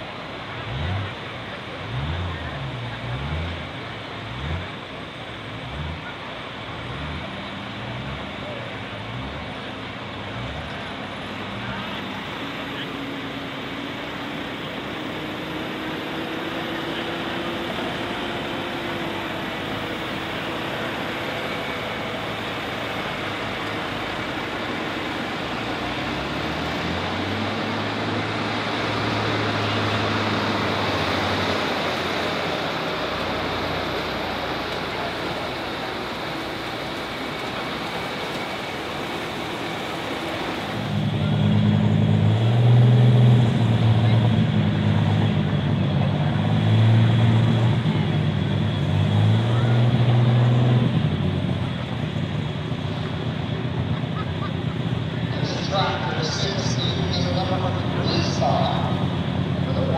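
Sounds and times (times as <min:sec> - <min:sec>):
tractor diesel engine at full power: 0:00.0 - 0:59.9.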